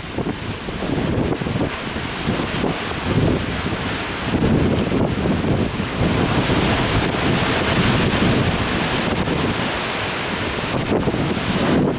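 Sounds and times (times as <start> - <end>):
surf breaking: 0.0 - 11.9
wind gusts on microphone: 0.0 - 11.9.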